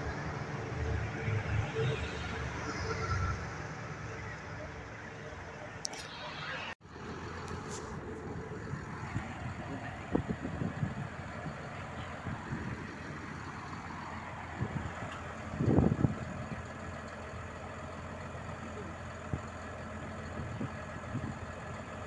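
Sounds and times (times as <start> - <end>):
tractor engine passing: 0.0 - 22.0.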